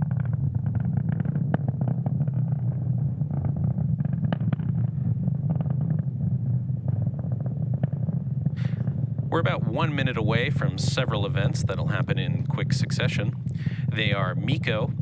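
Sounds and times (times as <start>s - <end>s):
rocket engines rumbling and crackling: 0.0s - 15.0s.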